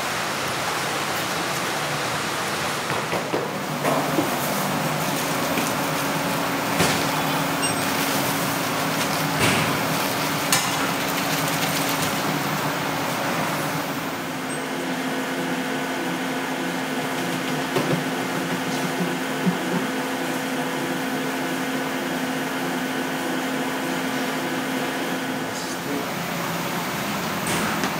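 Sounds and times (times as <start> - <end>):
factory machinery humming: 0.0 - 27.9.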